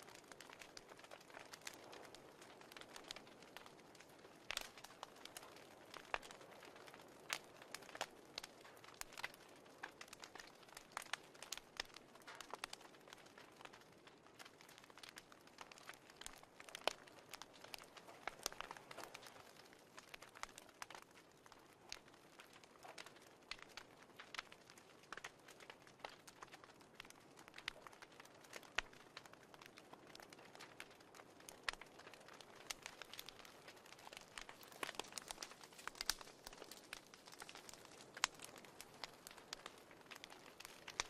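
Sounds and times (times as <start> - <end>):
fireplace crackling: 0.0 - 41.0.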